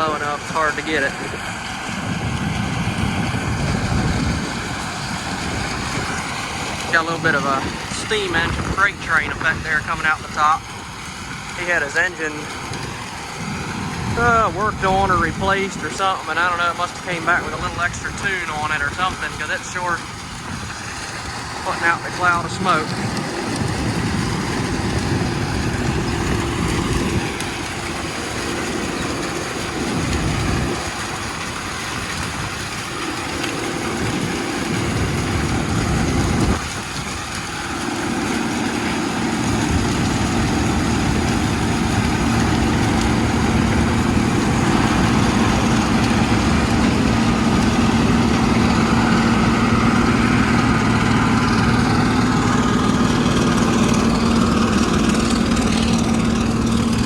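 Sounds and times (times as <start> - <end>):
diesel farm machinery rumble: 0.0 - 57.0.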